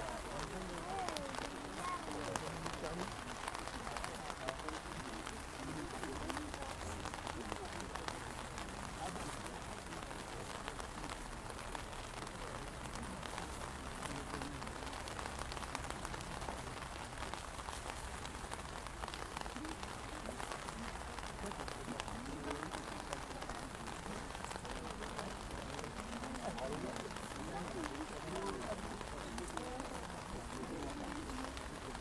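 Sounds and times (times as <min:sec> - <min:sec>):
rain on an umbrella: 0:00.0 - 0:32.0
rain on wet pavement: 0:00.0 - 0:32.0.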